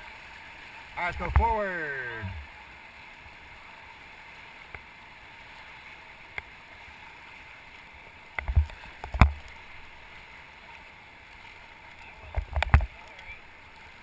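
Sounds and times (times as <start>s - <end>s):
paddling: 0.0s - 14.0s
river water rushing: 0.0s - 14.0s.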